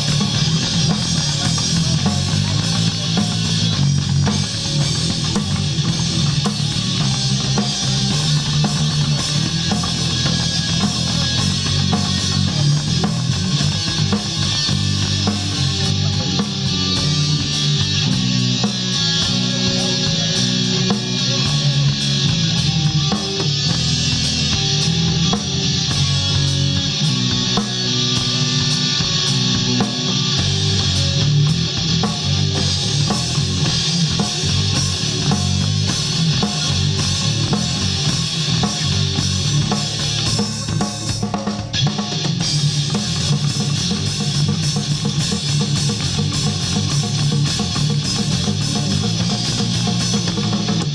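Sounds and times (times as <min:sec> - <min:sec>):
distorted electric guitar: 0:00.0 - 0:50.9
drum kit beat: 0:00.0 - 0:50.9.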